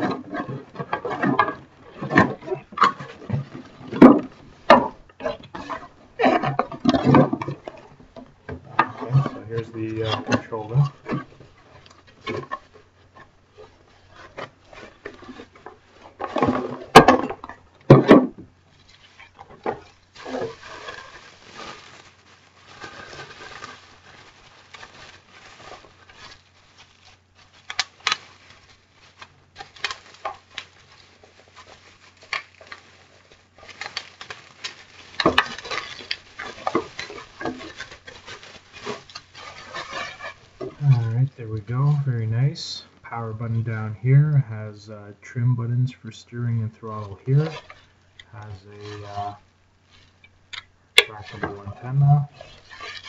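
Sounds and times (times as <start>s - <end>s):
packaging rustling: 0.0s - 42.1s, 47.0s - 53.0s.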